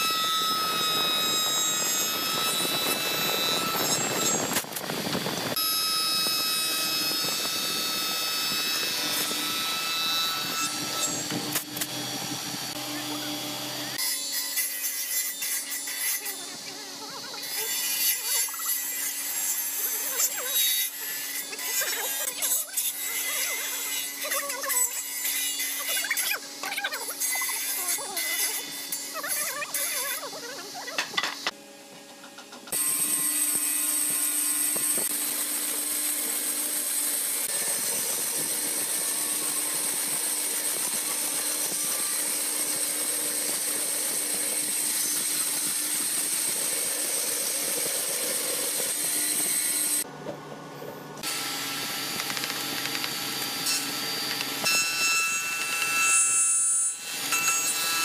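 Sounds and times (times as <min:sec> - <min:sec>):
band saw cutting wood: 0:00.0 - 0:50.1, 0:51.1 - 0:58.0
circular saw cutting wood: 0:00.0 - 0:50.1, 0:51.1 - 0:58.0.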